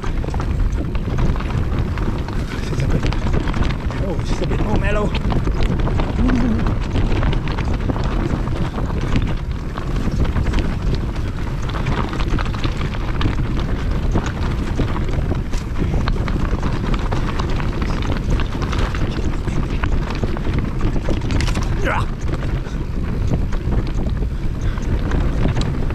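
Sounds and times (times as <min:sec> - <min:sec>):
bike rattling knocks: 0:00.0 - 0:25.9
tyres crunching over stones: 0:00.0 - 0:25.9
wind rumble on microphone: 0:00.0 - 0:25.9.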